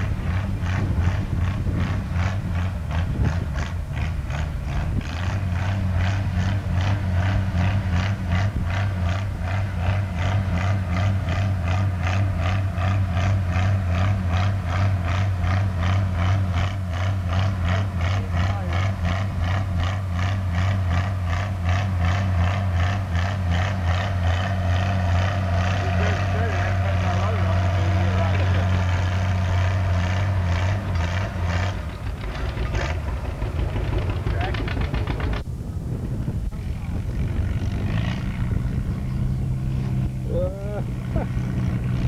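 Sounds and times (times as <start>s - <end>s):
tractor engine working under load: 0.0s - 42.0s.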